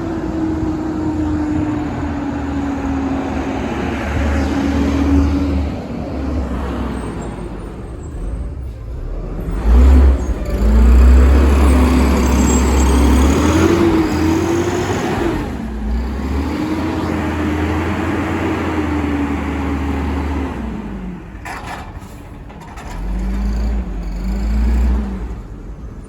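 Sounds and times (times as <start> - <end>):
diesel truck engine revving: 0.0 - 26.0.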